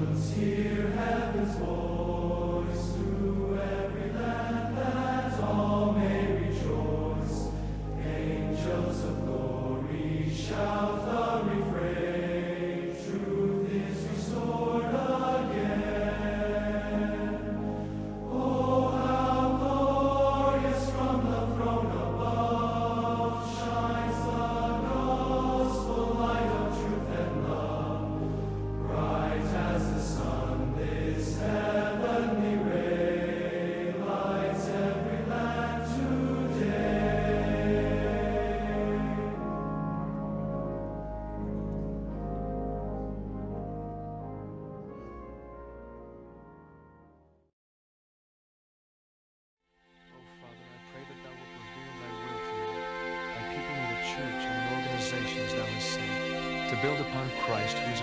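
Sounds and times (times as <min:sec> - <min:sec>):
low held drone: 0:00.0 - 0:45.5, 0:50.1 - 0:58.0
choir singing sustained chords: 0:00.0 - 0:47.3, 0:49.9 - 0:58.0.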